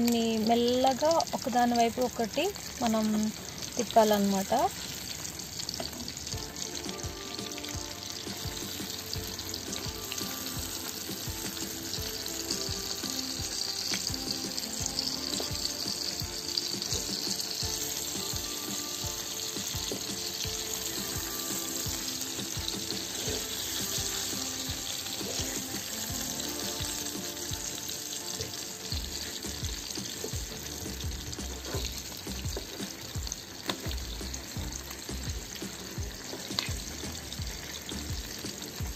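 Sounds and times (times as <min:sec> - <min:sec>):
background music: 0:00.0 - 0:38.9
fish sizzling in hot oil: 0:00.0 - 0:38.9.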